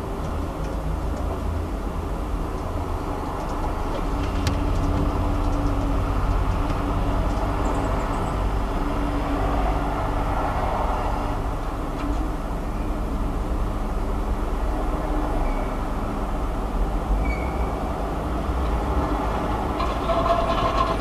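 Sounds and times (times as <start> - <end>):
city rumble: 0.0 - 21.0
low droning hum: 0.0 - 21.0.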